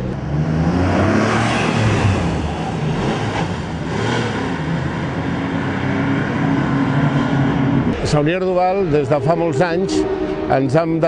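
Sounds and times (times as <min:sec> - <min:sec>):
racing car engine at speed: 0:00.0 - 0:11.0.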